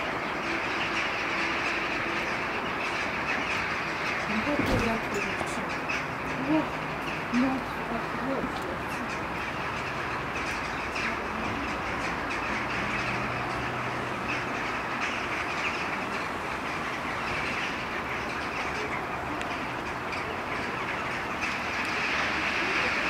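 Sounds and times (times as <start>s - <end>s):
flock of jackdaws calling: 0.0s - 23.0s.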